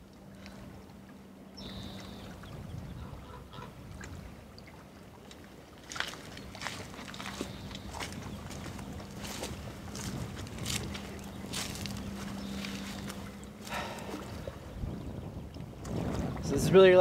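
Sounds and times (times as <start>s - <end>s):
water: 0.0s - 17.0s
wind: 0.0s - 17.0s.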